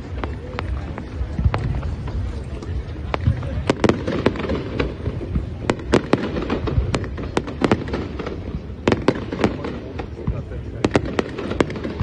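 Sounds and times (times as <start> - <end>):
distant fireworks rumble: 0.0 - 12.0
fireworks bangs and crackles: 0.0 - 12.0.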